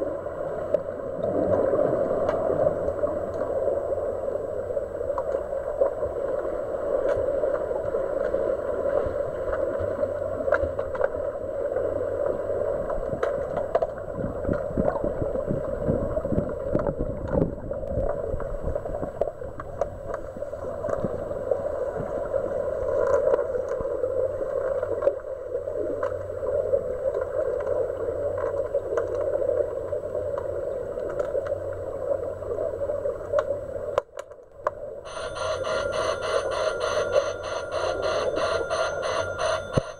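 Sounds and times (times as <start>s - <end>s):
underwater rush of water and bubbles: 0.0s - 34.0s.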